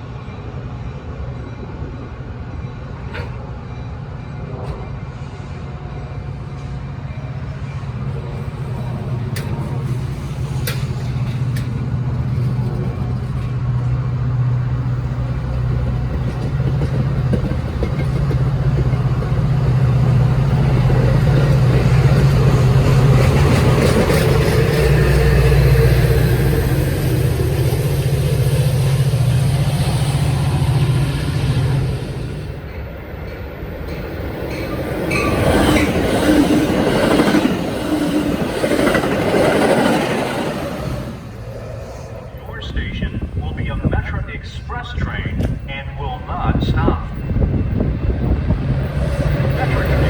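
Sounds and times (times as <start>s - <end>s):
diesel train passing: 0.0s - 50.0s.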